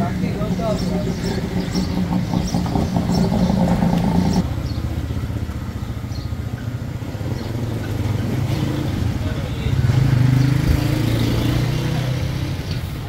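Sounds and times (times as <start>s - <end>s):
engine hum: 0.0s - 13.0s
street rumble: 0.0s - 13.0s.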